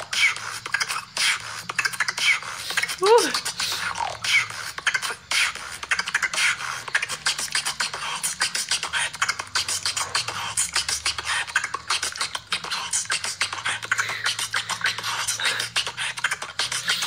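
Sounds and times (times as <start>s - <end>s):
woman beatboxing: 0.0s - 17.0s.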